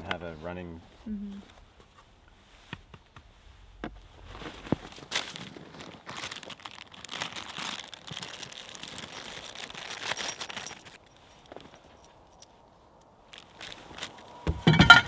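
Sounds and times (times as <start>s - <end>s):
crinkling and rustling handling: 1.4s - 15.0s.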